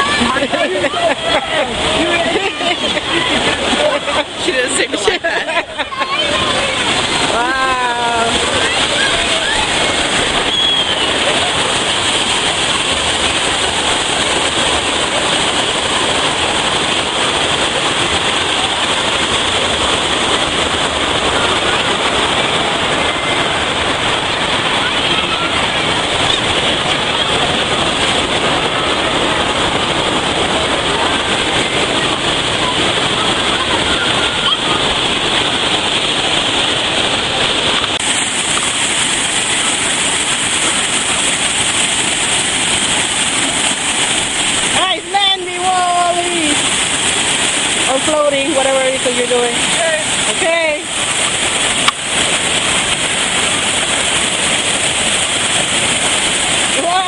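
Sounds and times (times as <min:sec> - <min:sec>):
water rushing and splashing: 0:00.0 - 0:57.0.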